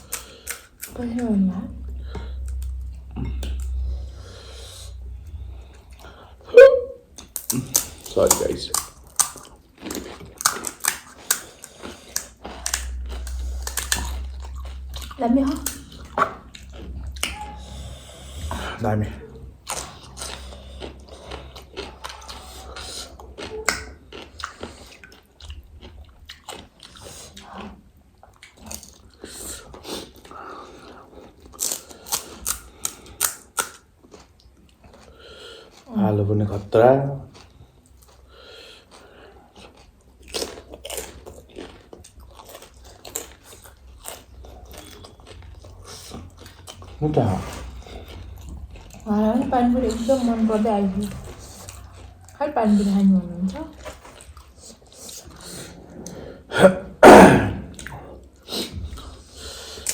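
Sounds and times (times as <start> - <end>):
crunchy food being chewed: 0.0 - 1.0, 7.1 - 56.2, 57.7 - 59.9.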